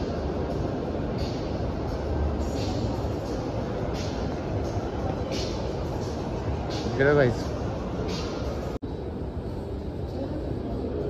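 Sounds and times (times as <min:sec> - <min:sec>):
faint music: 0:00.0 - 0:11.0.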